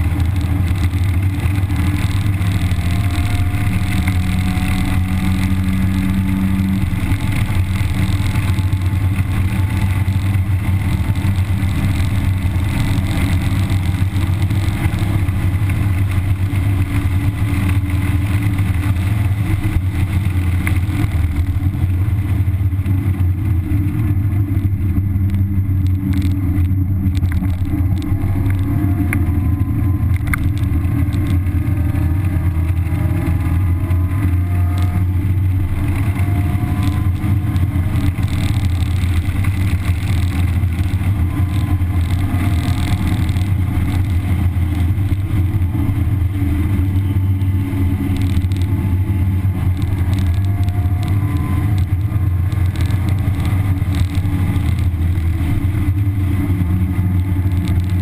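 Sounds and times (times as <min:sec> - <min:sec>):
car engine running under load: 0:00.0 - 0:58.0
road noise: 0:00.0 - 0:58.0
wind noise: 0:00.0 - 0:58.0.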